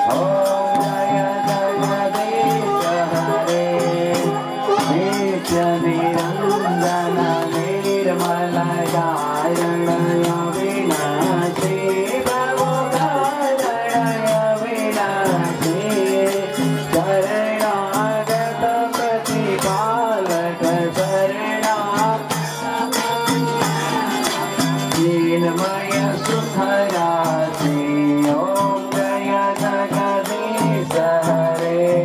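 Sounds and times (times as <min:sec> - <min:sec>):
devotional singing: 0:00.0 - 0:32.0
instrumental accompaniment: 0:00.0 - 0:32.0
rhythmic hand clapping: 0:00.0 - 0:32.0.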